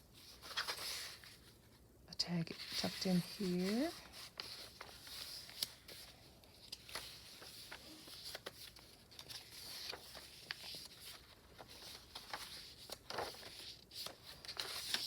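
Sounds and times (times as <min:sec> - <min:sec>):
paper pages rustling: 0:00.2 - 0:01.7, 0:02.5 - 0:15.0.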